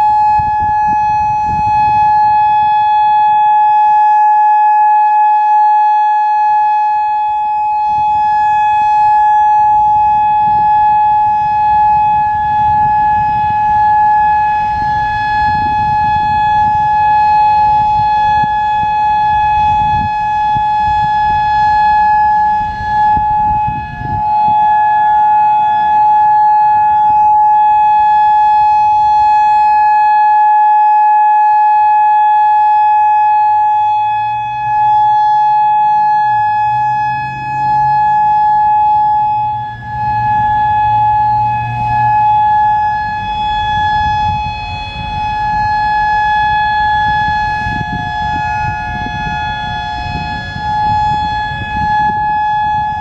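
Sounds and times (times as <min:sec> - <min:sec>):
warning siren steady high tone: 0:00.0 - 0:53.0.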